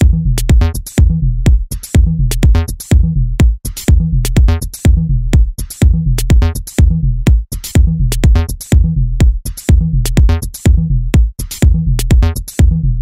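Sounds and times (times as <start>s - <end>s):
electronic music with drum machine: 0.0s - 13.0s.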